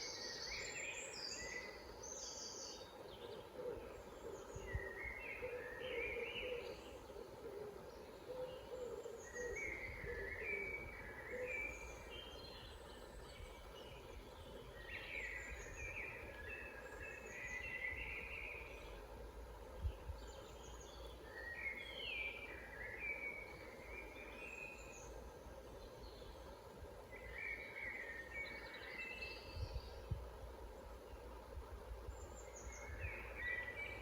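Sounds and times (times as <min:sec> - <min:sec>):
birds singing: 0:00.0 - 0:31.3, 0:32.0 - 0:34.0.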